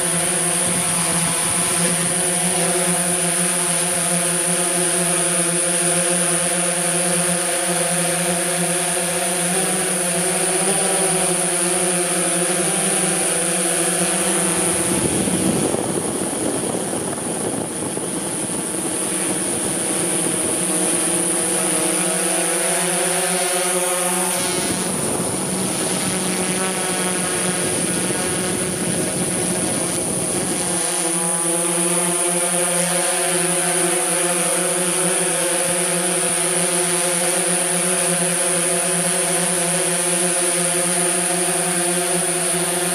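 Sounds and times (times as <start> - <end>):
drone motors humming: 0.0 - 42.9.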